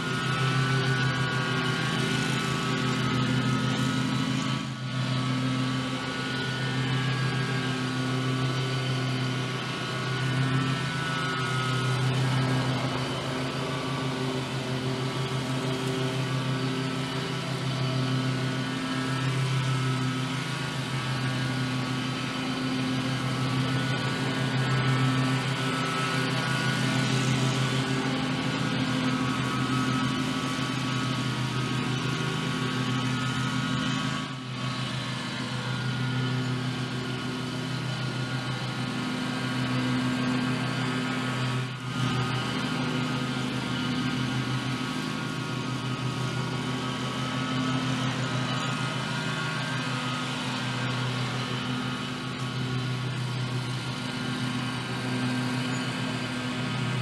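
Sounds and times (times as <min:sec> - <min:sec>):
riding lawn mower engine: 0:00.0 - 0:57.0.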